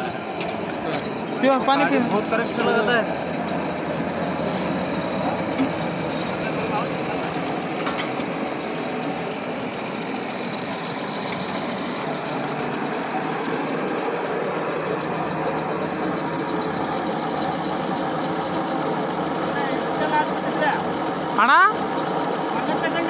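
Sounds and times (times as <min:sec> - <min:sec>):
truck engine running steadily: 0:00.0 - 0:23.0.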